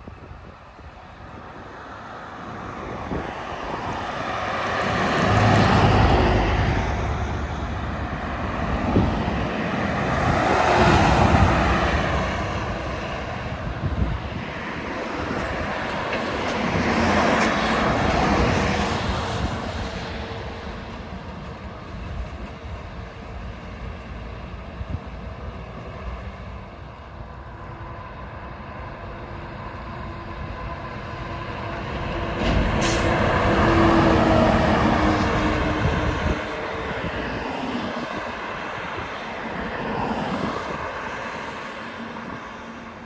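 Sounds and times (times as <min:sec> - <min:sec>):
trucks passing on highway: 0:00.0 - 0:43.0.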